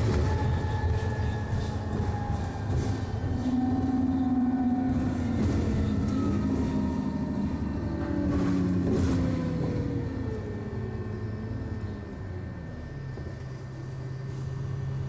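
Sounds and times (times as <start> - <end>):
whining tones shifting in pitch: 0.0 - 13.6
bus engine drone: 0.0 - 15.0.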